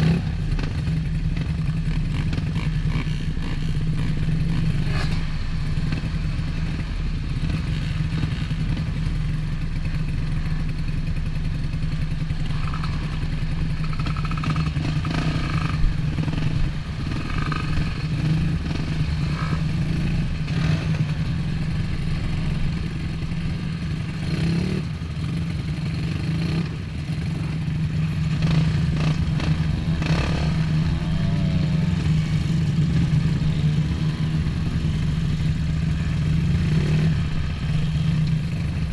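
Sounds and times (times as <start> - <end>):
dirt bike engines idling: 0.0 - 38.9.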